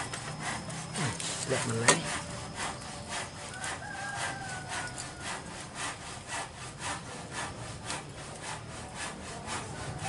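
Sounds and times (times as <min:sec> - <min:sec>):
hand scraping or filing: 0:00.0 - 0:10.0.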